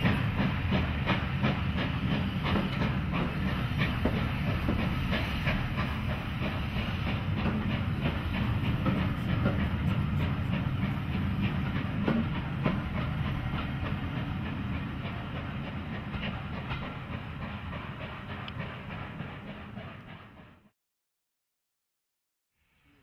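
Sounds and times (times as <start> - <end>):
train wheels rumbling on track: 0.0 - 20.7.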